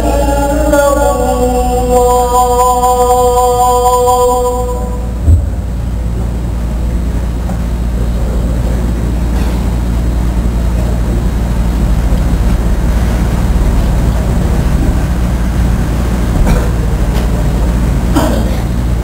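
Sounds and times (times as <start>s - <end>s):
fans and air conditioner running: 0.0s - 19.0s.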